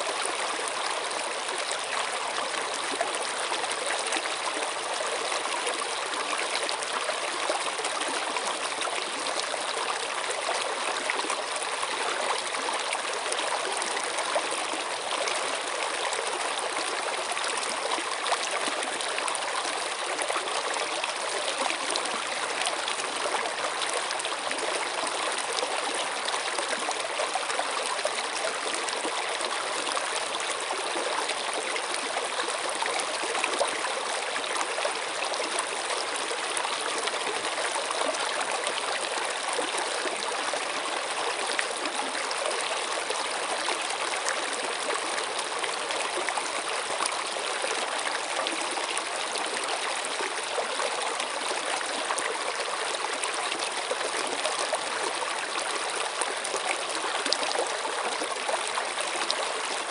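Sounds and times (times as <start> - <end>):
stream water trickling over stones: 0.0 - 59.9.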